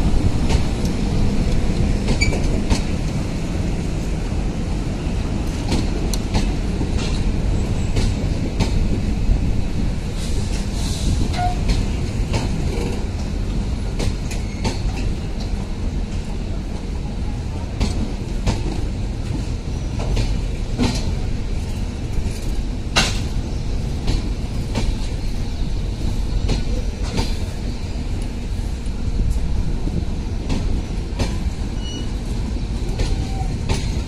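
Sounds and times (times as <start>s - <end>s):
train coaches rumbling: 0.0s - 34.0s.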